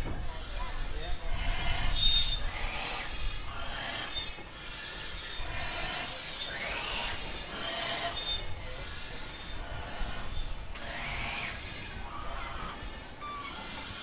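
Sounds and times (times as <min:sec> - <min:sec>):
steam locomotive rumbling: 0:00.0 - 0:14.0.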